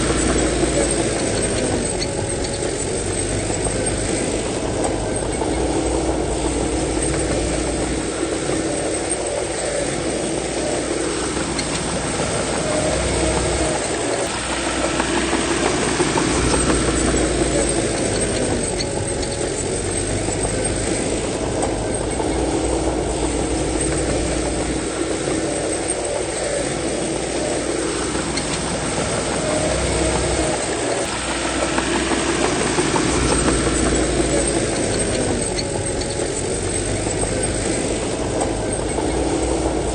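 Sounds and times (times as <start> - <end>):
bulldozer diesel engine: 0.0 - 39.9
metallic clatter: 0.0 - 39.9.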